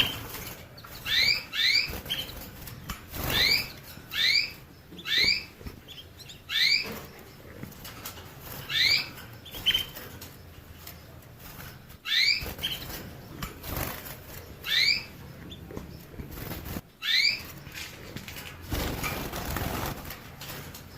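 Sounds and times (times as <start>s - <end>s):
finch chirping: 0.0s - 20.9s
steady rustling noise: 0.0s - 20.9s.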